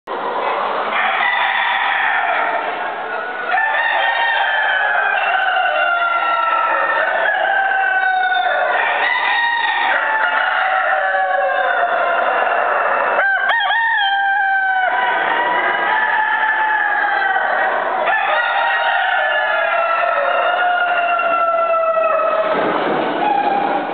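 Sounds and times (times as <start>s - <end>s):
roosters crowing: 0.9s - 23.9s.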